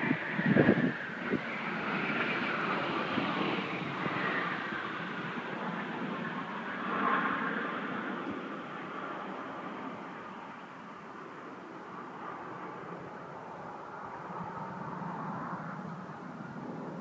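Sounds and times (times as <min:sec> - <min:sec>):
plane flying past: 0:00.0 - 0:17.0.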